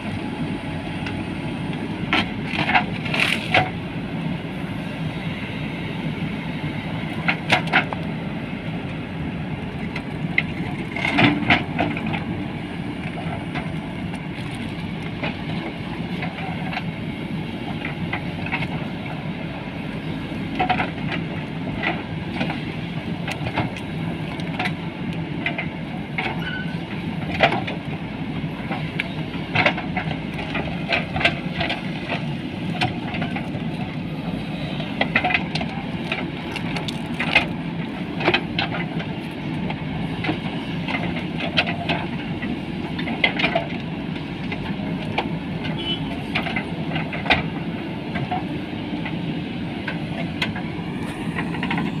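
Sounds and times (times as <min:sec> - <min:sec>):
diesel engines under load: 0:00.0 - 0:52.0.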